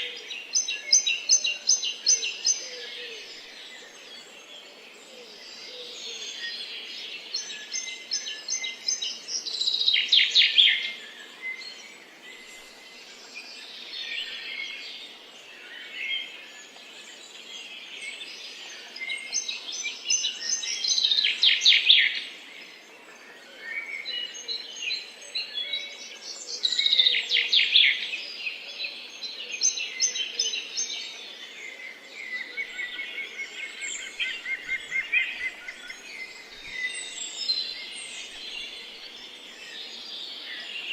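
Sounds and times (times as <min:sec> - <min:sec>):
faint outdoor hiss: 0:00.0 - 0:40.9
songbird song of rapid notes: 0:00.0 - 0:40.9.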